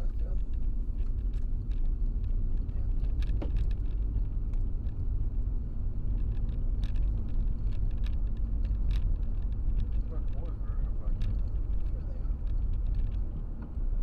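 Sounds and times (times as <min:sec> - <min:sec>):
car driving on wet road: 0:00.0 - 0:14.0.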